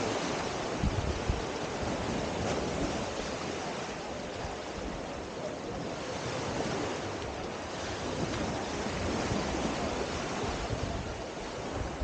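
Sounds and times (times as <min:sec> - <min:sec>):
small waves lapping on sand: 0:00.0 - 0:12.0.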